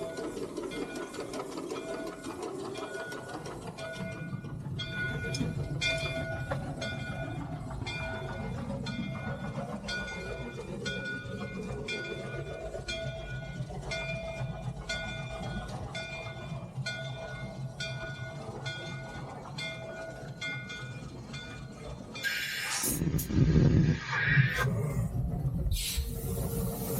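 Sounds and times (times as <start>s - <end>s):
steam locomotive rumbling: 0.0s - 26.9s.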